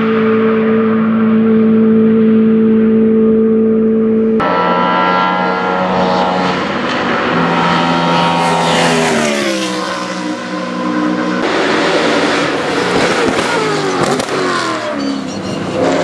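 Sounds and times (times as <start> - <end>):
another engine: 0.0 - 16.0
racing car engine at high revs: 0.0 - 16.0.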